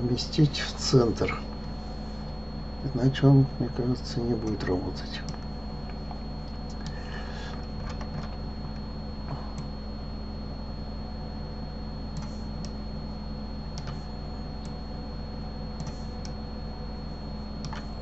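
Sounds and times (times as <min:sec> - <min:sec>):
faint high whine: 0:00.0 - 0:18.0
low electrical hum: 0:00.0 - 0:18.0.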